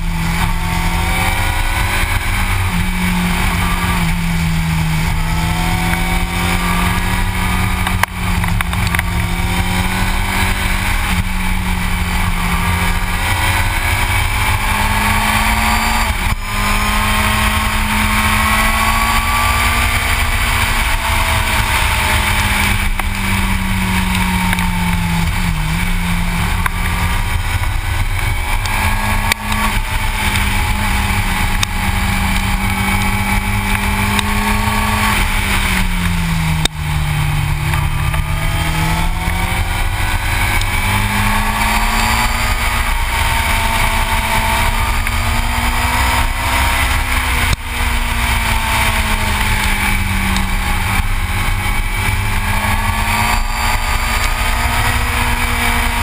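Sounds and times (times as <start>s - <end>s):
motorcycle engine at road speed: 0.0s - 56.0s.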